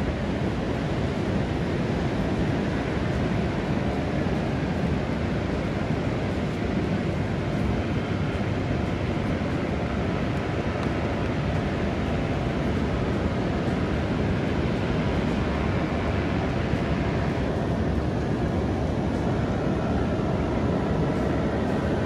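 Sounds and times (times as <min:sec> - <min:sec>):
ocean surf: 0:00.0 - 0:22.0
wind buffeting microphone: 0:00.0 - 0:22.0.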